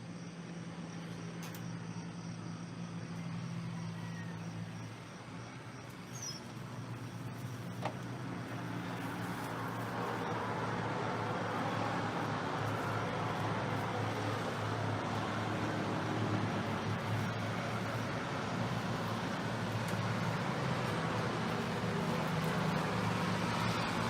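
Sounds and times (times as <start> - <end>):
motor vehicle engine hum: 0.0 - 24.0.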